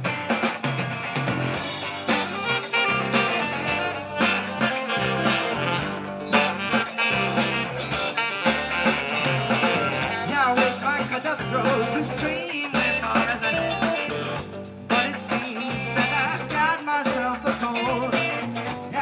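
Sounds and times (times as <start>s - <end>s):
drum hits: 0.0s - 16.2s
live rock band playing: 0.0s - 19.0s.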